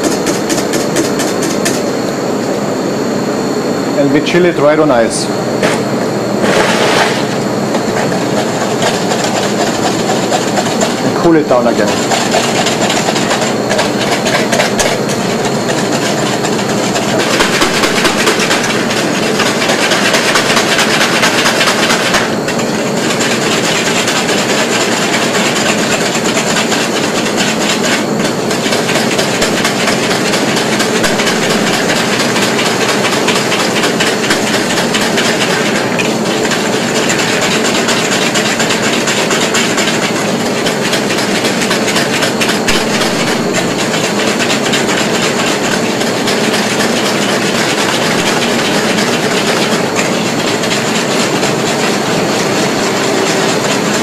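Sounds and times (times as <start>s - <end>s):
whisk clattering in metal bowl: 0.0s - 1.9s, 6.4s - 54.0s.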